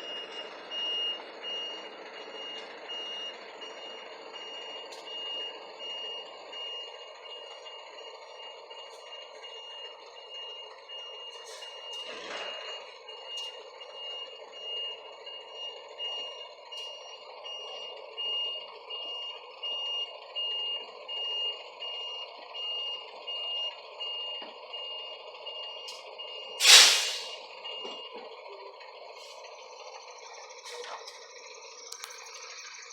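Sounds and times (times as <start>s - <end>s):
vehicle reversing alarm beeping: 0.0s - 32.9s.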